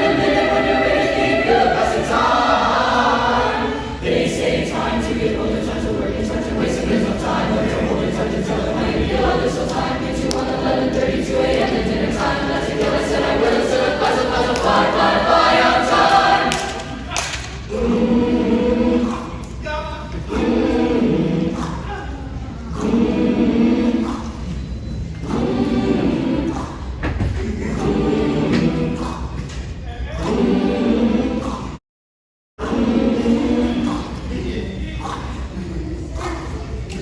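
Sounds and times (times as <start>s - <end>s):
choir singing in harmony: 0.0s - 31.8s, 32.6s - 37.0s.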